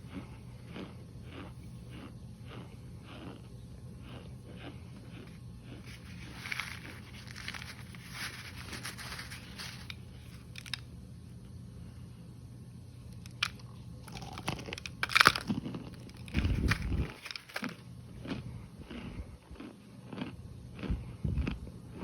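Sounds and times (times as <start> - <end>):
chewing crunchy cornstarch: 0.0 - 10.9, 13.0 - 22.0.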